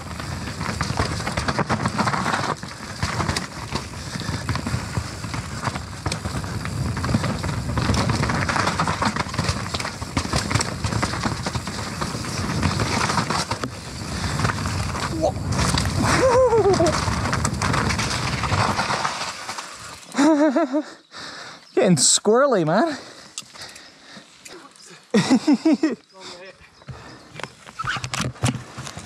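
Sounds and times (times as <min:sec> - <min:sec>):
bike chain and frame clattering: 0:00.0 - 0:20.8, 0:23.0 - 0:26.0
tyres rolling over mud and rock: 0:00.0 - 0:20.9, 0:22.9 - 0:26.2, 0:26.9 - 0:29.0.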